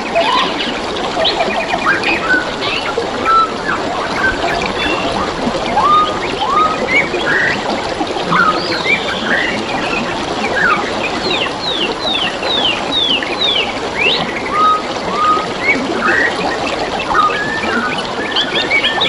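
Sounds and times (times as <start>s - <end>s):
stream water trickling: 0.0s - 19.0s
wild birds singing: 0.2s - 16.4s.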